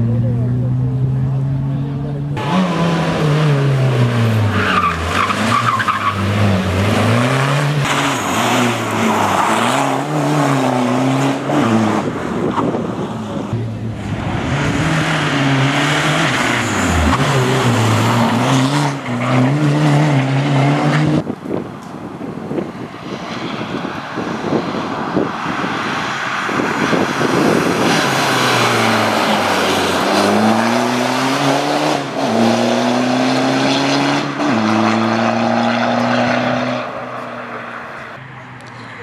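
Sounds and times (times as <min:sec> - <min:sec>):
rally car engine revving: 0:00.0 - 0:21.3, 0:25.1 - 0:38.2.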